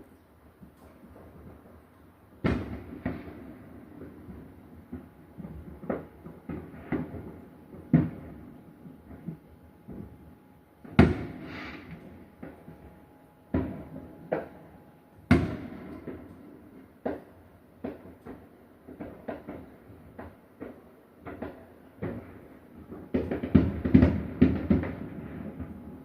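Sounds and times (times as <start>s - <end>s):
fireworks exploding: 0.6s - 10.2s, 10.8s - 26.0s.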